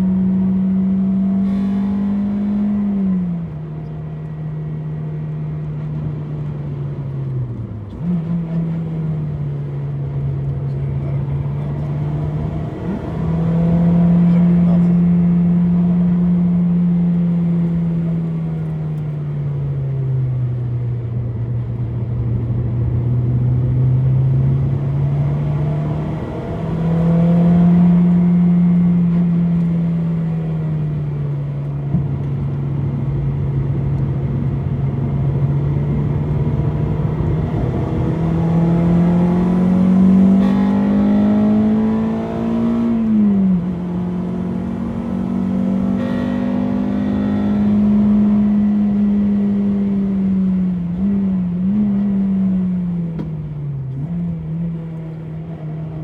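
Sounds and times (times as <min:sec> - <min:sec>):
car engine running hard: 0:00.0 - 0:56.0.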